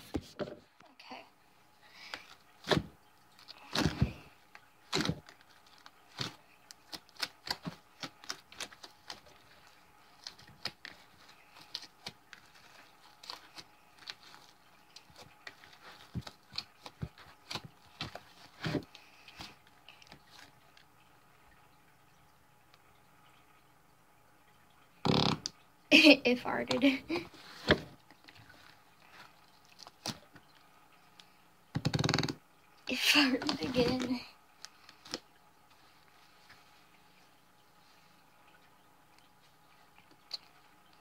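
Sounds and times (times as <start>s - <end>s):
wet clicks and crackles: 2.0s - 23.7s, 26.6s - 37.0s, 38.5s - 41.0s.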